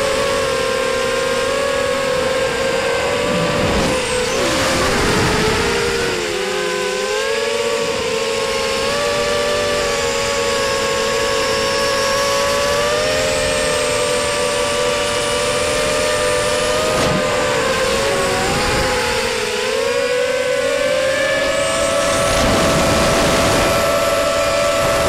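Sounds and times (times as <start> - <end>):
drone motors whining: 0.0 - 25.0
wind rush and prop wash: 0.0 - 25.0.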